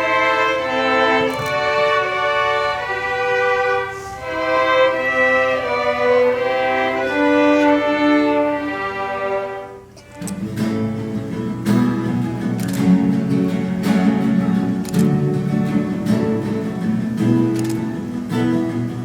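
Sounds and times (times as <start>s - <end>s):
acoustic guitar strumming: 0.0s - 19.0s
violin melody: 0.0s - 19.0s.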